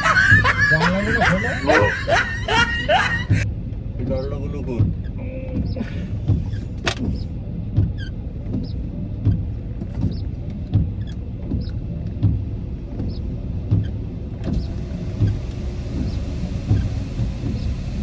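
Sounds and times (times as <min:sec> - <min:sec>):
car engine low rumble: 0:00.0 - 0:18.0
soft regular tick and thump: 0:03.3 - 0:17.8.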